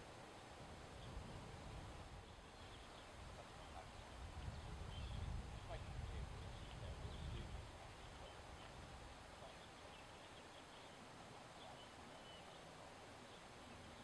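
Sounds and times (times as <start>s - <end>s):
outdoor background hiss: 0.0s - 14.0s
distant bird chirps: 0.9s - 5.8s, 6.4s - 14.0s.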